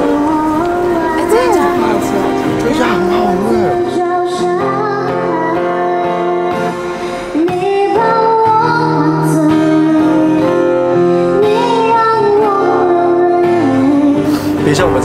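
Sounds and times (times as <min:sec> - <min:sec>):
woman singing into a microphone: 0:00.0 - 0:14.6
acoustic guitar: 0:00.0 - 0:15.0.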